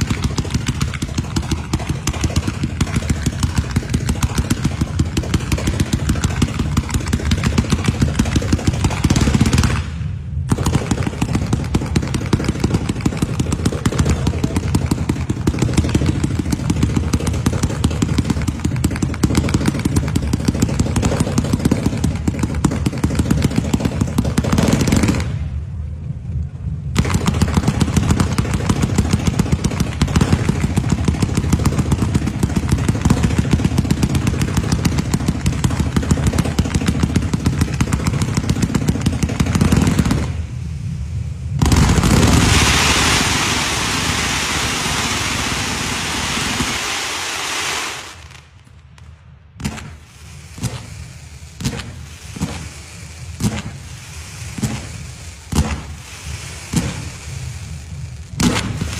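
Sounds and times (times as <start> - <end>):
firecrackers crackling: 0.0 - 58.9.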